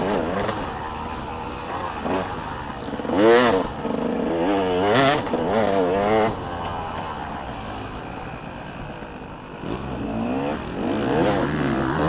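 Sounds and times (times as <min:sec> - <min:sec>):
motocross bikes revving past: 0:00.0 - 0:12.0.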